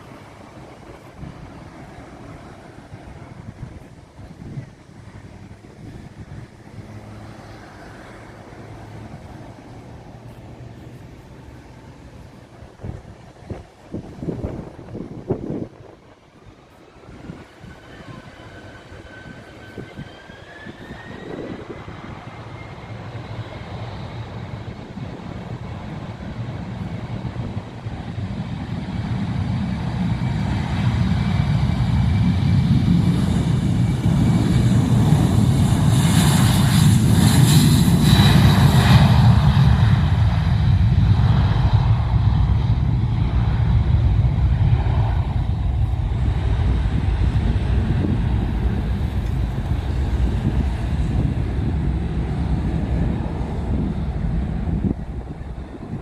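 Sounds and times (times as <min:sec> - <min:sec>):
jet engine rumble: 0:00.0 - 0:56.0
jet engine whine: 0:00.0 - 0:56.0.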